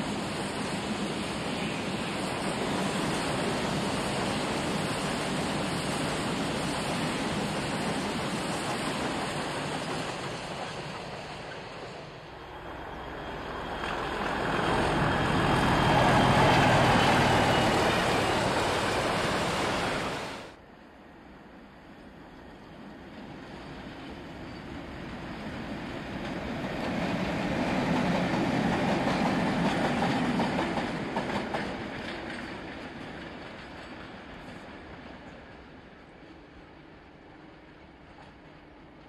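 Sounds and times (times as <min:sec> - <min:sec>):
train wheels rumbling on track: 0:00.0 - 0:20.6, 0:21.8 - 0:39.0
diesel locomotive engine: 0:00.0 - 0:39.0.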